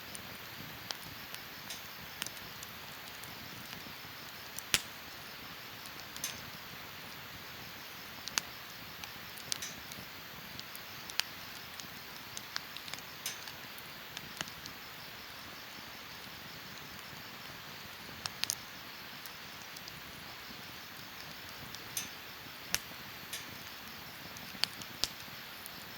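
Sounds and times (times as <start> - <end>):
campfire crackling and popping: 0.1 - 25.9.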